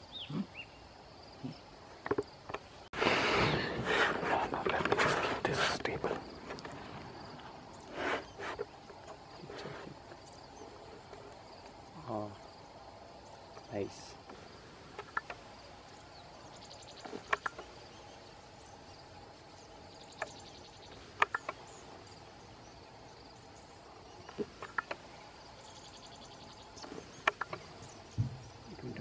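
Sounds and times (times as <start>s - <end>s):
insects buzzing: 0.0s - 29.0s
steady background hush: 0.0s - 29.0s.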